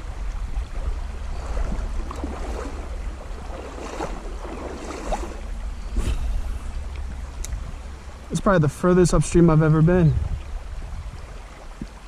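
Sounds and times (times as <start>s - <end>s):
creek water running and splashing: 0.0s - 12.0s
wind rumble on microphone: 0.0s - 12.0s.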